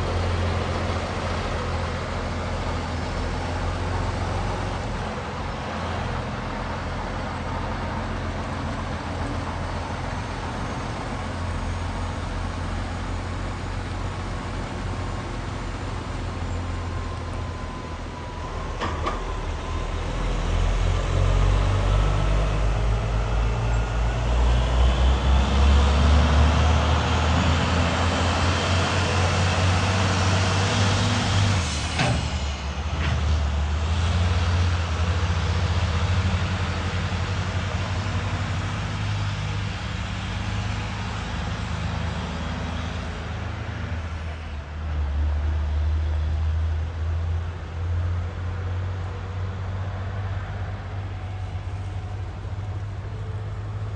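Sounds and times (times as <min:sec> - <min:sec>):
diesel truck engine rumbling: 0:00.0 - 0:53.9.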